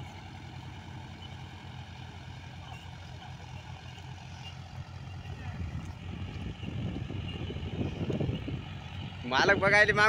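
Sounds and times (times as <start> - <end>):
tractor diesel engine throb: 0.0 - 10.0.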